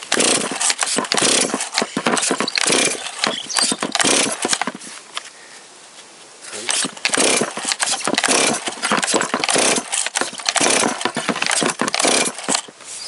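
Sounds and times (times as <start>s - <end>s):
chainsaw recoil starter pulls: 0.0s - 4.8s, 6.6s - 12.7s
engine cranking: 0.0s - 4.8s, 6.6s - 12.7s.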